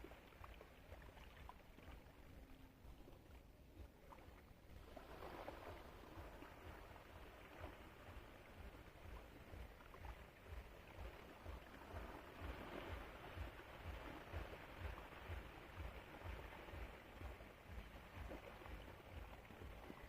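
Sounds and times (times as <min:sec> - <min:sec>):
sea water lapping: 0:00.0 - 0:20.0.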